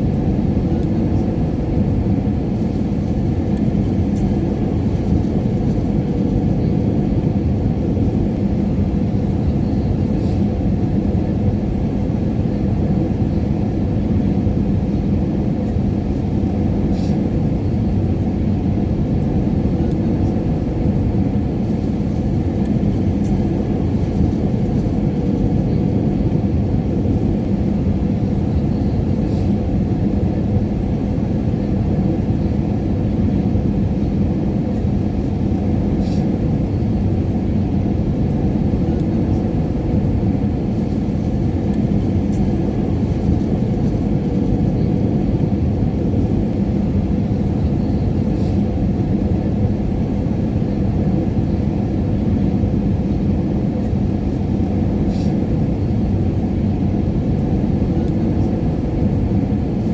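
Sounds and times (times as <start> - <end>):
engine and airflow rumble: 0.0 - 59.9
faint constant hum: 0.0 - 59.9.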